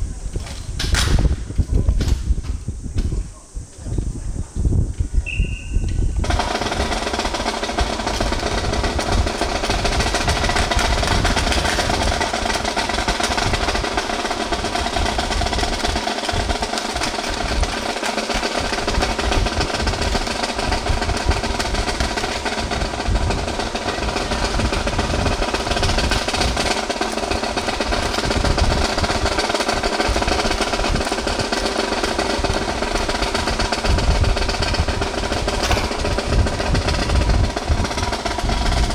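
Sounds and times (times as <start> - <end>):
snare drum rolls: 6.2 - 38.9.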